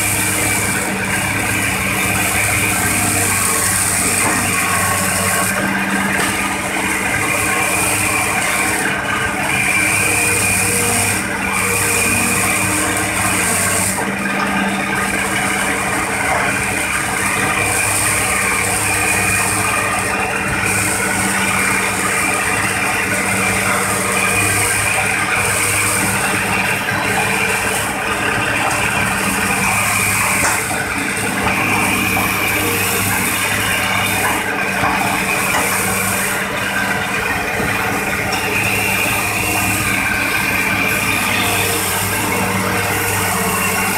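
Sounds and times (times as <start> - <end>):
excavator diesel engine running: 0.0 - 43.9
hydraulic whine: 0.0 - 43.9.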